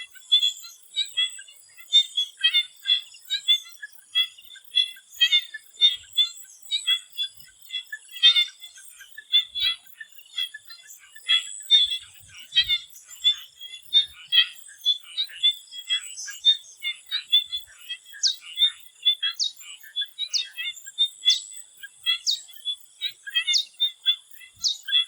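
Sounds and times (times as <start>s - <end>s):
frogs chirping: 0.0s - 25.0s.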